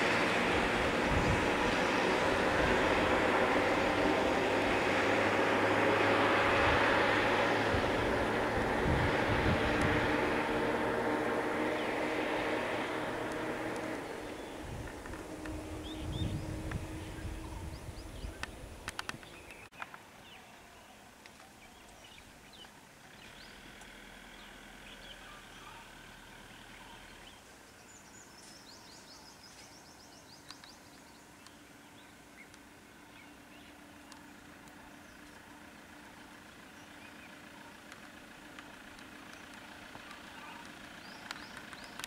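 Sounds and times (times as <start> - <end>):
birds chirping: 0.0 - 42.0
vehicle engine rumbling: 0.0 - 42.0.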